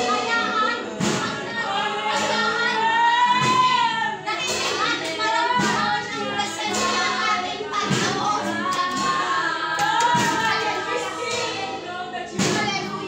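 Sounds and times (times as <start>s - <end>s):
instrumental accompaniment: 0.0s - 13.0s
voices singing together: 0.0s - 13.0s.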